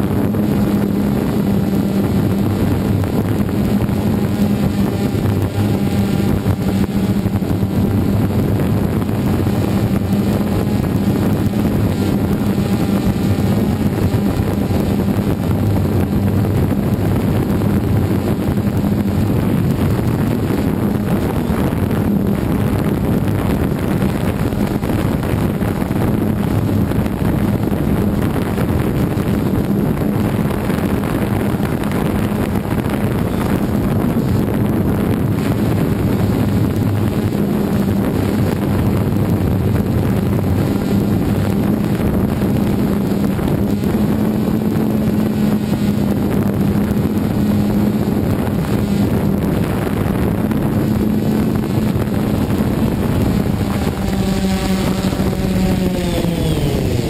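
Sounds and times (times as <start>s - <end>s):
drone propellers humming: 0.0s - 57.0s
wind buffeting microphone: 0.0s - 57.0s.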